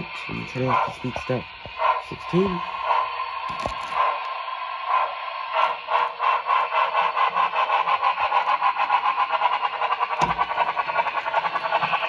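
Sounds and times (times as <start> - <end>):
model locomotive chuffing from speaker: 0.0 - 12.0.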